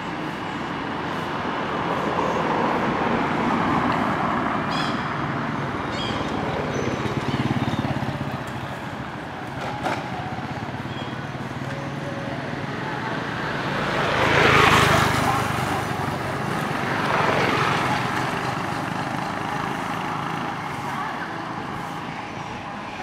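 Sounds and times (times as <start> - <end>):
vehicle passing: 1.0 - 23.0.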